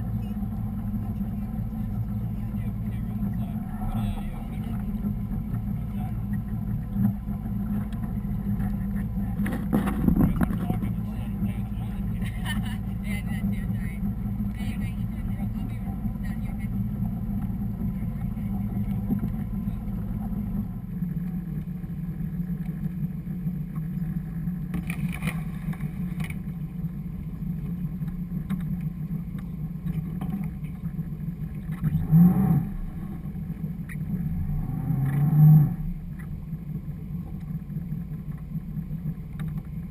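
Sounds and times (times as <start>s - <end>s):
motorboat engine idling: 0.0s - 39.9s.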